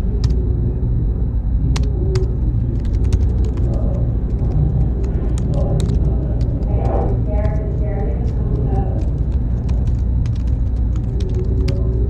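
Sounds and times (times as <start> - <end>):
faint high whine: 0.0 - 12.0
low rumble of machines: 0.0 - 12.0
keyboard typing clicks: 1.7 - 12.0.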